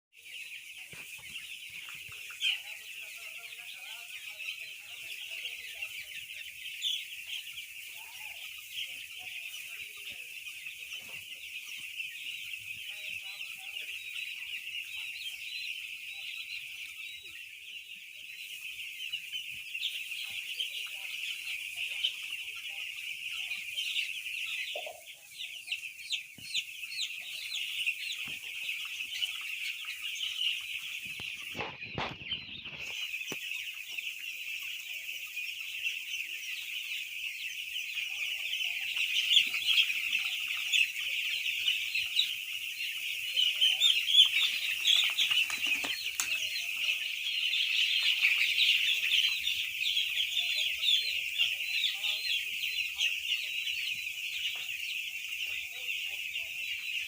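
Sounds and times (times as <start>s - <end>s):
chicks peeping: 0.2s - 57.0s.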